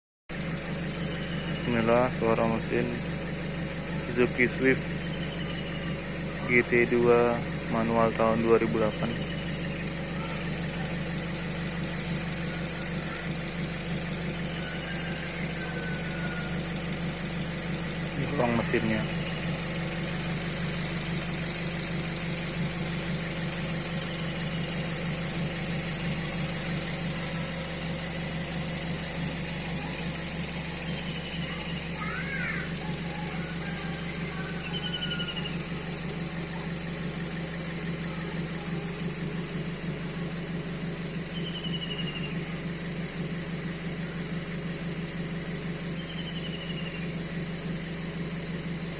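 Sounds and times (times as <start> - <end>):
car engine idling: 0.3 - 48.9.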